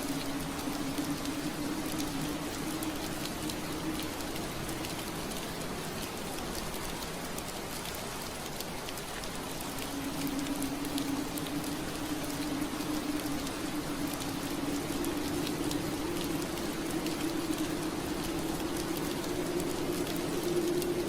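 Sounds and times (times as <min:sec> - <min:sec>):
low steady hum: 0:00.0 - 0:21.0
rain pattering on window glass: 0:00.0 - 0:21.0.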